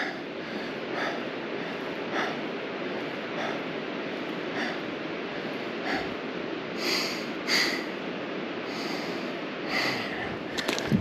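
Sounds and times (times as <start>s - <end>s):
man breathing hard: 0.0s - 10.8s
steady hiss: 0.0s - 11.0s.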